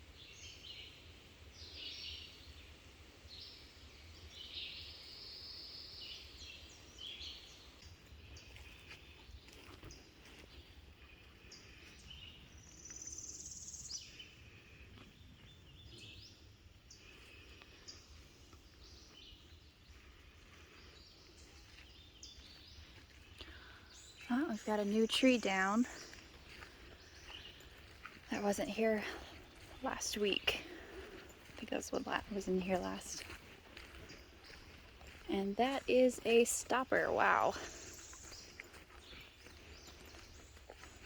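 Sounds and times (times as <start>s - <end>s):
birds chirping and singing: 3.4s - 41.0s.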